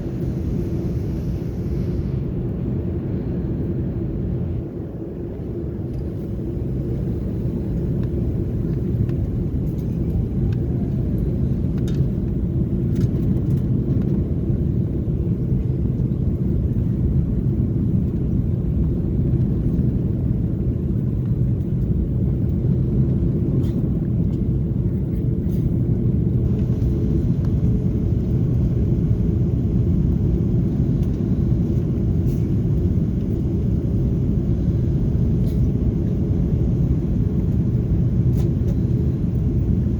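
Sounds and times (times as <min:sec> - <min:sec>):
airplane cabin low rumble: 0:00.0 - 0:39.9.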